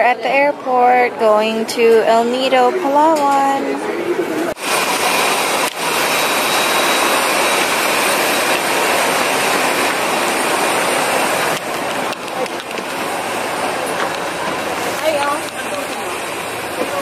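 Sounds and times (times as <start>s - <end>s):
jet engines running: 2.0s - 17.0s.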